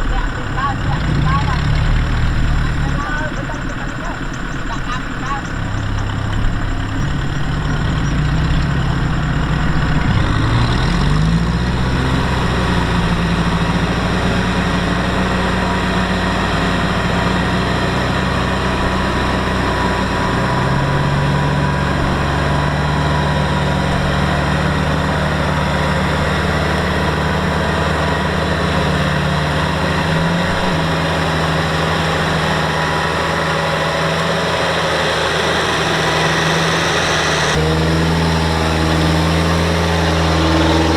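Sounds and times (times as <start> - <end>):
diesel engine of farm machinery: 0.0 - 40.9.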